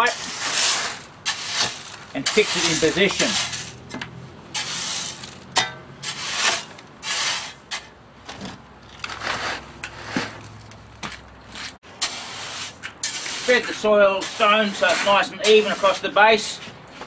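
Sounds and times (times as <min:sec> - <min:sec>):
shovel scraping gravel on steel: 0:00.0 - 0:17.0.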